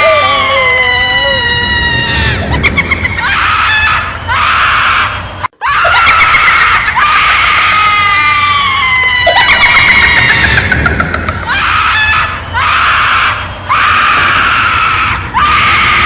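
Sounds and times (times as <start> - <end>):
long high-pitched screams: 0.0 - 2.6, 3.2 - 10.7, 11.4 - 16.0.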